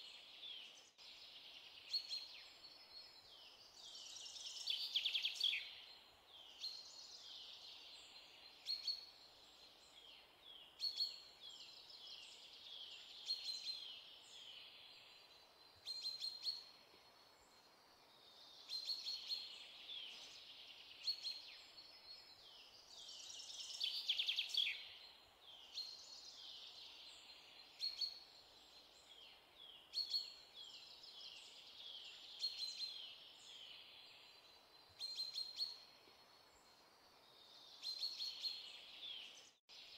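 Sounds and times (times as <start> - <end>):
faint background noise: 0.0 - 39.9.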